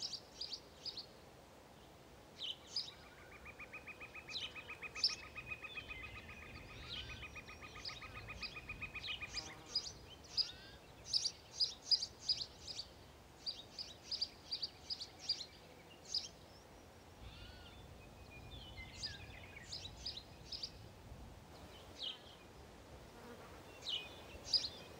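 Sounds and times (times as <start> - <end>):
sparrows chirping: 2.4 - 20.9, 21.6 - 22.5, 23.7 - 24.9.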